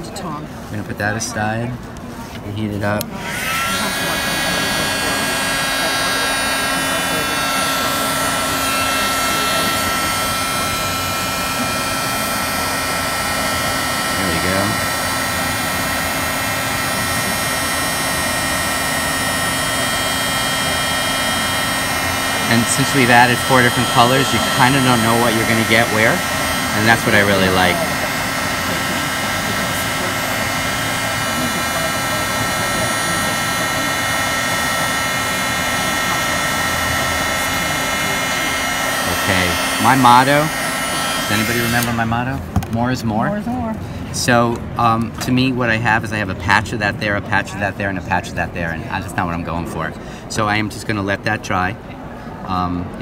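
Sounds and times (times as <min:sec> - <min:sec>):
heat gun fan blowing with whine: 0:00.0 - 0:53.0.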